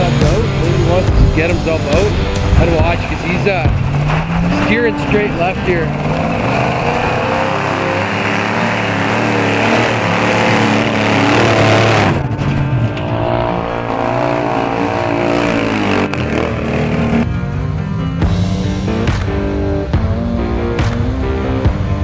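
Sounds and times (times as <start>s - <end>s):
off-road engine revving: 0.0s - 22.0s.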